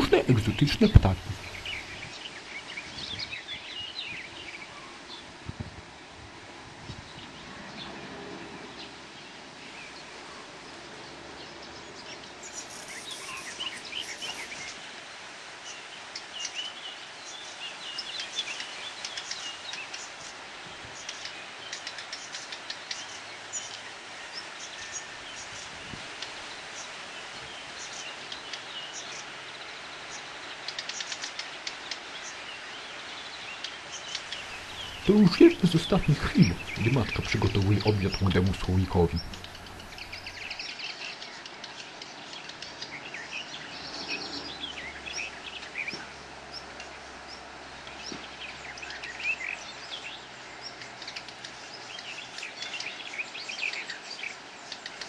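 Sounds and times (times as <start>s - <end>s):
outdoor background hiss: 0.0s - 55.0s
songbirds chirping: 0.0s - 55.0s.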